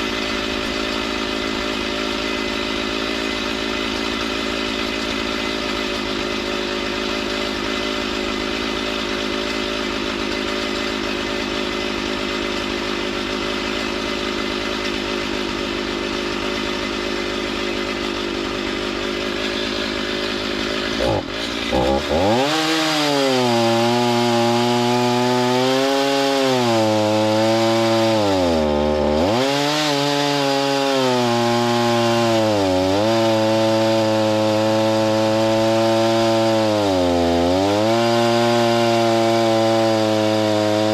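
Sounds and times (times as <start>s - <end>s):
saw engine cutting wood: 0.0s - 40.9s.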